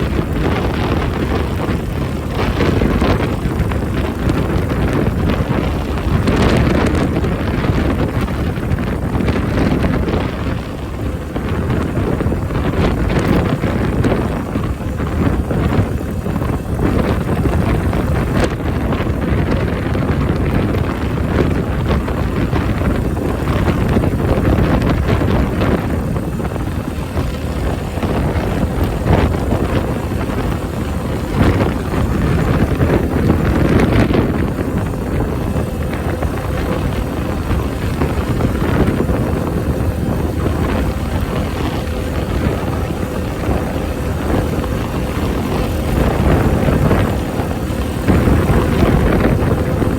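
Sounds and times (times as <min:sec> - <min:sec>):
motorcycle engine running: 0:00.0 - 0:49.9
wind buffeting microphone: 0:00.0 - 0:49.9.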